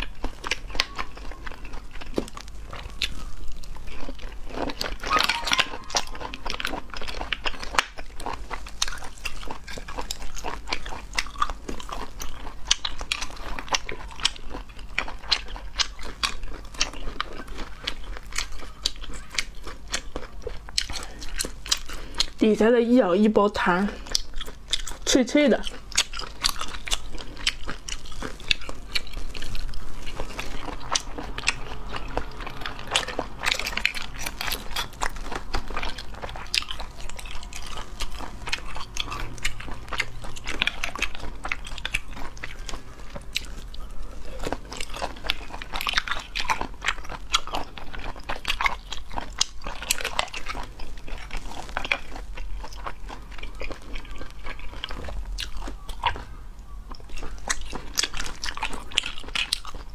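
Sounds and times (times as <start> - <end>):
crunchy chewing of snail meat: 0.0 - 59.9.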